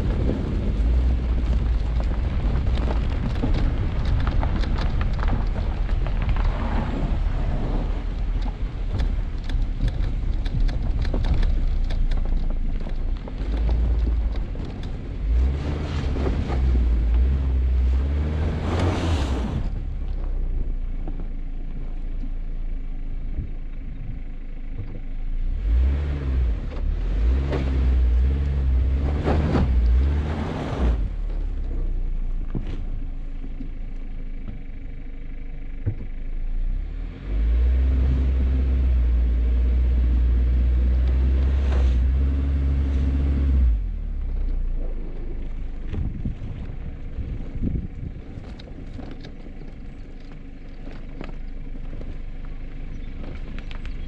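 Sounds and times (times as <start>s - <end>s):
engine surging: 0.0s - 34.7s, 35.8s - 54.0s
vehicle rumbling through sand: 0.0s - 54.0s.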